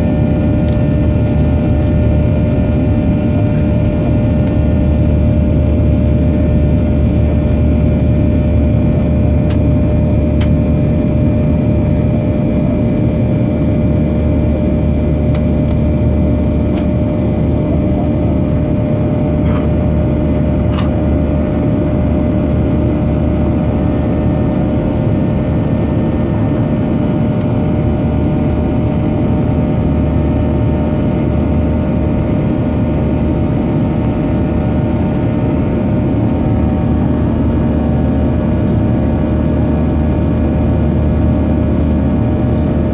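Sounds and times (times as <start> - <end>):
jet engine and airflow noise: 0.0 - 42.9.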